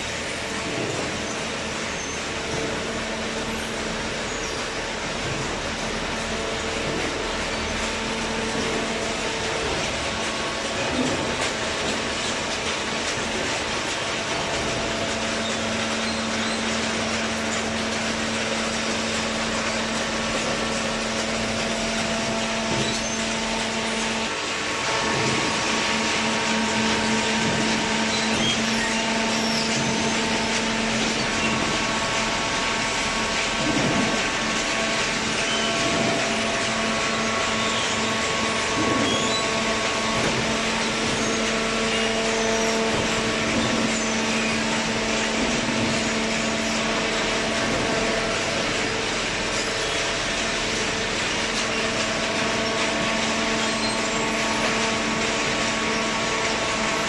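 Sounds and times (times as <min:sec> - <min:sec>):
baler machine hum: 0:00.0 - 0:57.0.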